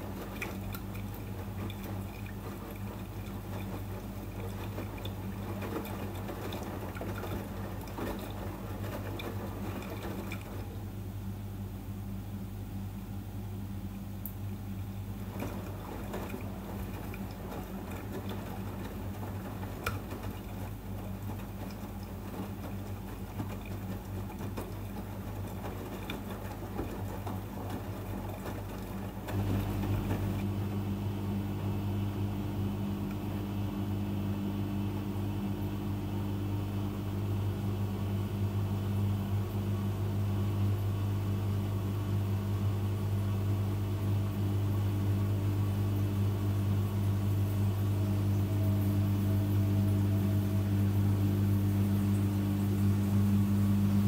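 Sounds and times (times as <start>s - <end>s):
water sloshing in drum: 0.0s - 11.0s, 14.4s - 54.0s
washing machine motor hum: 0.0s - 54.0s.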